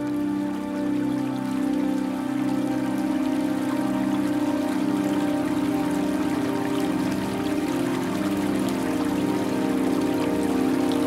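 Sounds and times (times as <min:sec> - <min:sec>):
ambient meditation music: 0:00.0 - 0:11.0
flowing stream: 0:00.0 - 0:11.0.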